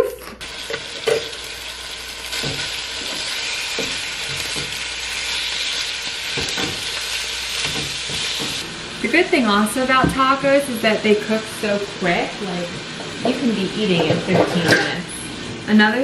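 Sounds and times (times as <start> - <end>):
meat sizzling in a pan: 0.4 - 14.3.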